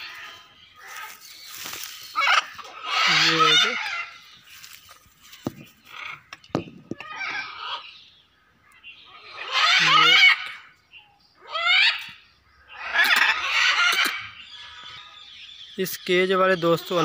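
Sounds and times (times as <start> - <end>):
macaws squawking loudly: 0.0 - 10.8, 11.4 - 17.0.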